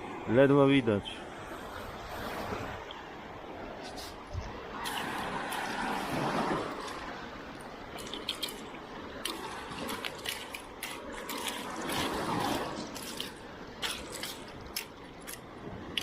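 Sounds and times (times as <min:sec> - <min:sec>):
sea water sloshing and splashing: 0:01.3 - 0:16.0.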